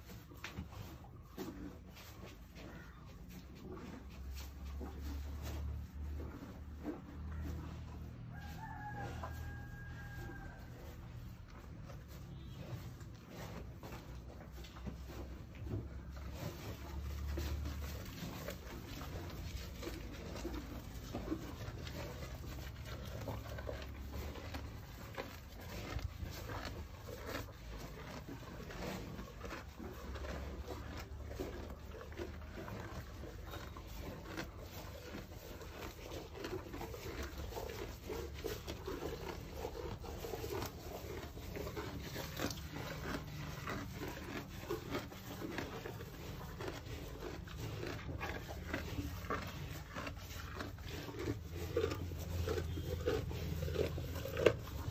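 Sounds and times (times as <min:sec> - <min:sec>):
calf chewing grass: 0:00.0 - 0:54.9.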